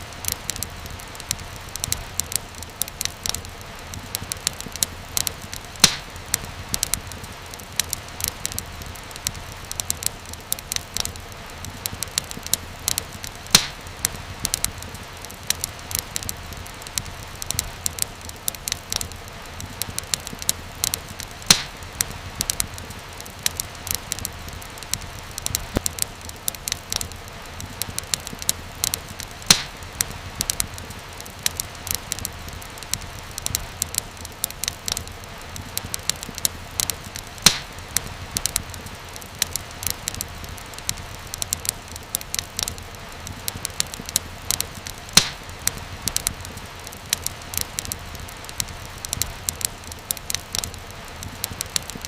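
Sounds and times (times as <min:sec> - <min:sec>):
fire crackling with pops: 0:00.0 - 0:52.0
low rumble of flames: 0:00.0 - 0:52.0.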